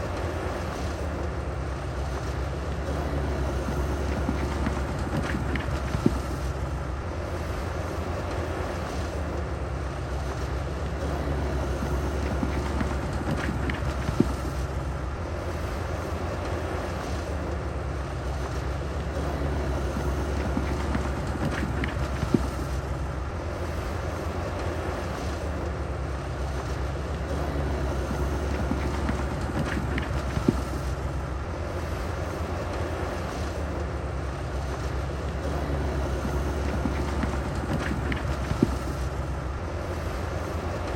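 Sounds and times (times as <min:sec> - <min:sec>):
diesel construction machinery rumbling: 0:00.0 - 0:40.9.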